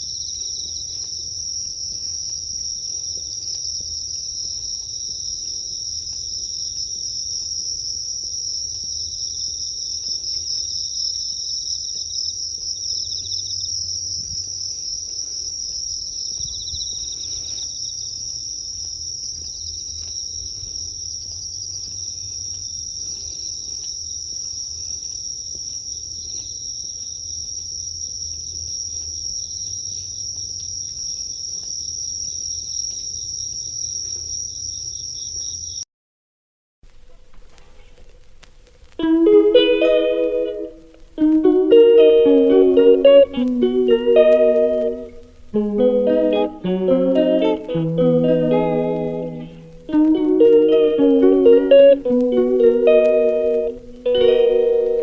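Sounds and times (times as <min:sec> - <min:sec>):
crickets trilling: 0:00.0 - 0:35.8, 0:39.0 - 0:55.0
pulsing insect chirp: 0:00.0 - 0:35.8, 0:39.0 - 0:55.0.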